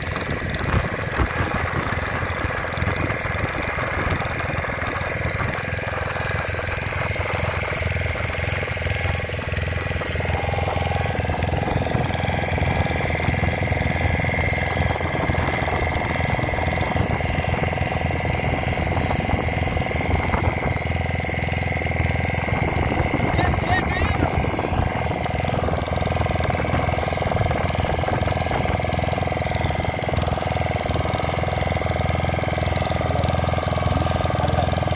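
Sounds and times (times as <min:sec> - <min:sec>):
boat engine knocking: 0:00.0 - 0:34.9.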